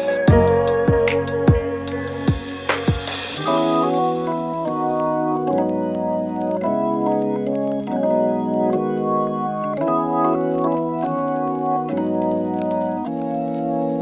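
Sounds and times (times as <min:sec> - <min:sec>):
organ chords: 0:00.0 - 0:14.0.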